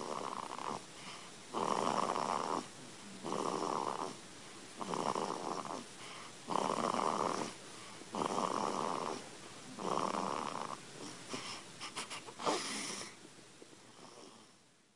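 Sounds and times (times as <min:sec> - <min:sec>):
baby snoring: 0:00.0 - 0:04.2, 0:04.8 - 0:13.2, 0:13.9 - 0:14.6.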